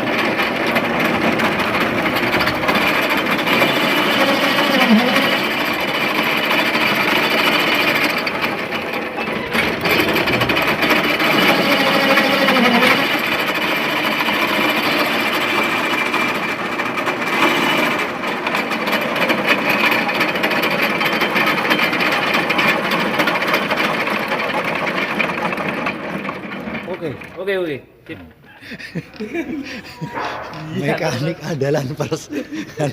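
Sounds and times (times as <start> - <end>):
sawmill machinery rattling: 0.0 - 27.8.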